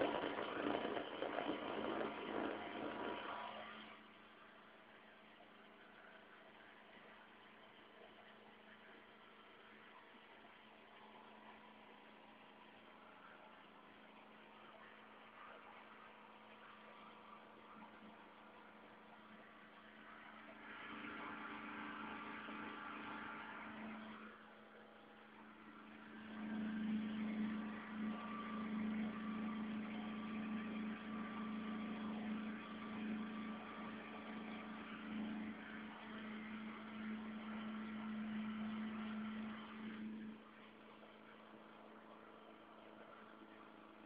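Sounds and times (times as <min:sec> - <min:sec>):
petrol generator running: 0:00.0 - 0:44.0.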